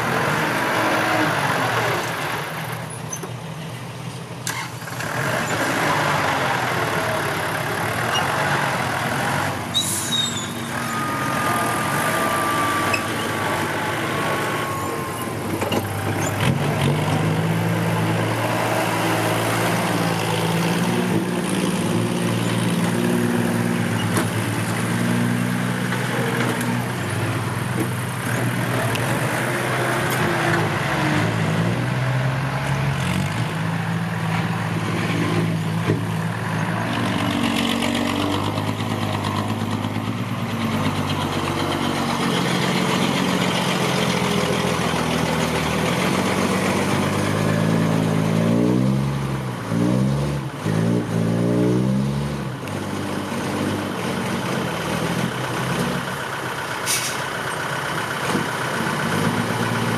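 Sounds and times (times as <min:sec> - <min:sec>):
diesel truck engine running: 0:01.4 - 0:49.8, 0:52.4 - 0:59.9.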